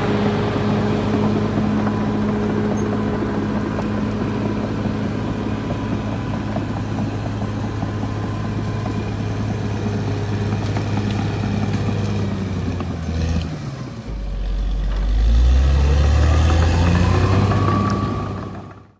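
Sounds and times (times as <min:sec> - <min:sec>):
bulldozer diesel engine running: 0:00.0 - 0:18.9.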